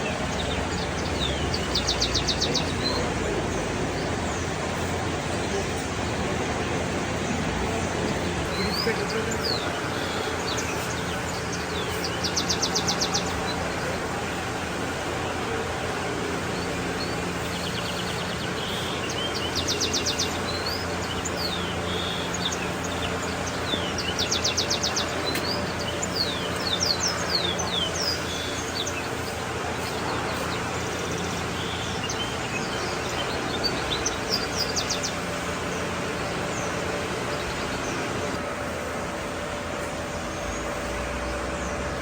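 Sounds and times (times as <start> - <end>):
small birds chirping and trilling: 0.0 - 42.0
steady low hum: 0.0 - 42.0.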